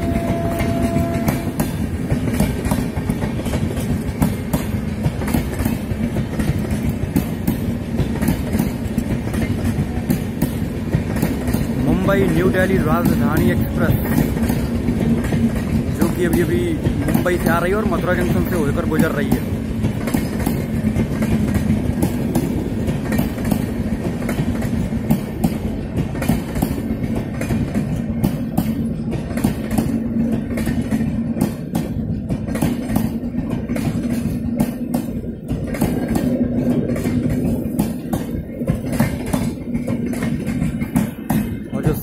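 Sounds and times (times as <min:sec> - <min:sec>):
train wheels clicking over rail joints: 0:00.0 - 0:42.0.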